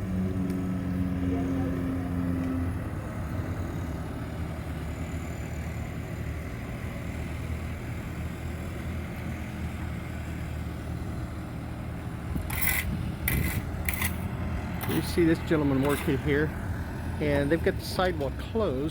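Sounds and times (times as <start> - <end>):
street traffic rumble: 0.0 - 18.9.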